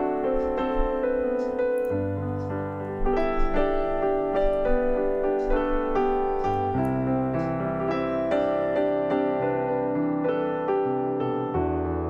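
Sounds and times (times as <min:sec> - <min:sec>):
soft piano piece: 0:00.0 - 0:12.0.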